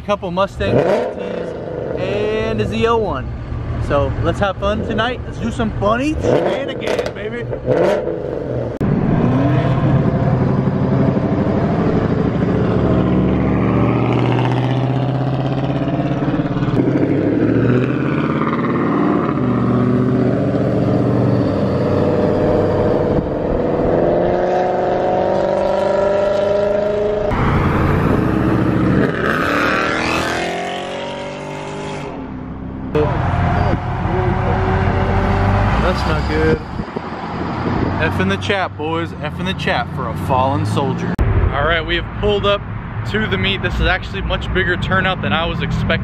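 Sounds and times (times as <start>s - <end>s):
car engine accelerating hard: 0.6s - 2.9s, 4.6s - 41.2s.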